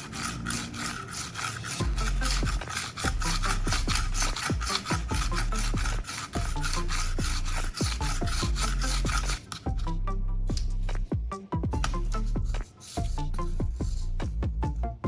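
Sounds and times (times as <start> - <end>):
knife rasping on sharpener: 0.0 - 9.9, 11.8 - 14.2
background music with beat: 1.6 - 15.0.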